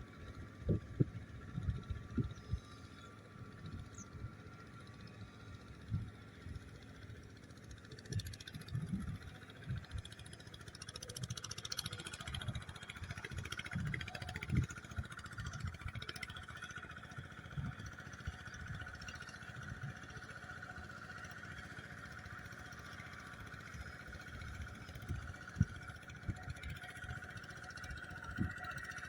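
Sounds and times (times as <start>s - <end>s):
walking tractor engine running: 0.0s - 29.0s.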